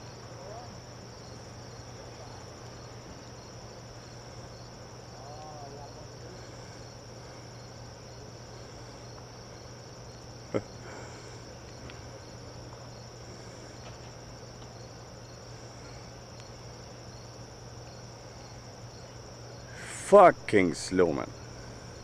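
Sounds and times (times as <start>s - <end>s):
crickets trilling: 0.0s - 22.0s
low steady hum: 0.0s - 22.0s.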